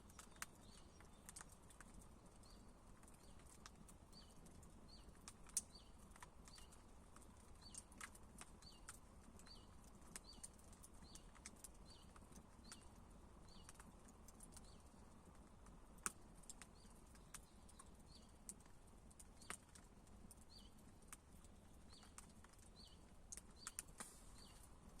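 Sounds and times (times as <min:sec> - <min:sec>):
campfire wood crackling and popping: 0:00.0 - 0:25.0.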